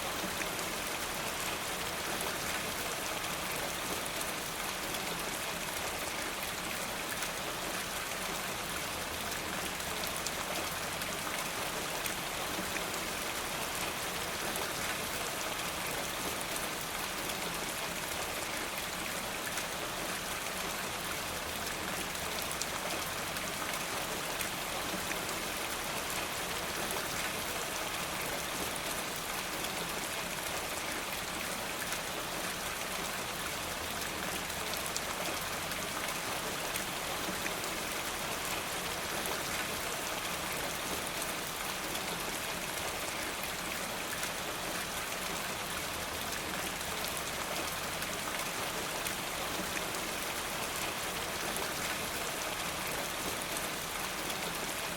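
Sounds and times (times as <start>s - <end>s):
rain pattering on surfaces: 0.0s - 54.9s.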